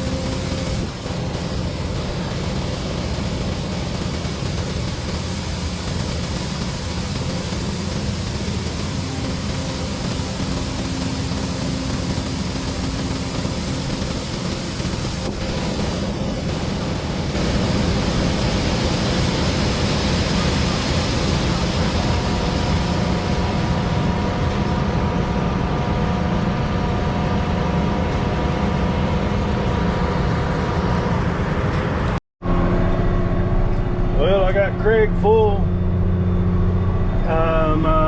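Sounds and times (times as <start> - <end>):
combine harvester running: 0.0 - 38.0
steady whine: 0.0 - 38.0.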